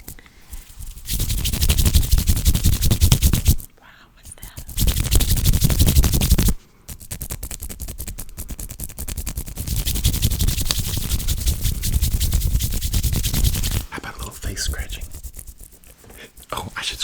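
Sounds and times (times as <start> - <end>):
hands rubbing and scratching: 0.0 - 17.0.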